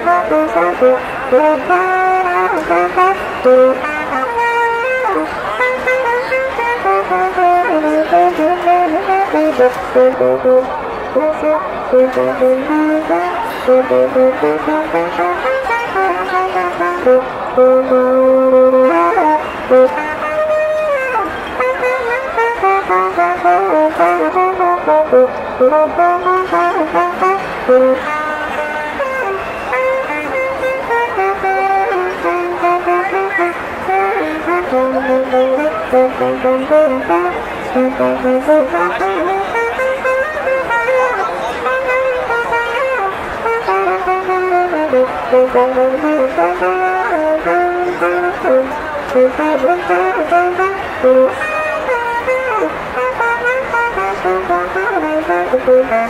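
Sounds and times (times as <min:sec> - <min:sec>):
wind instrument lively melody: 0:00.0 - 0:56.0.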